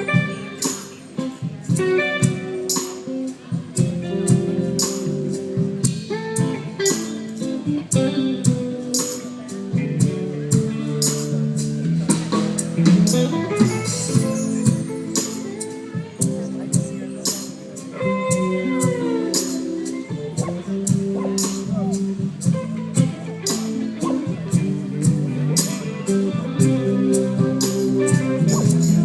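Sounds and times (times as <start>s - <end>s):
live band guitar: 0.0s - 29.0s
steady percussion beat: 0.2s - 23.8s, 26.6s - 29.0s.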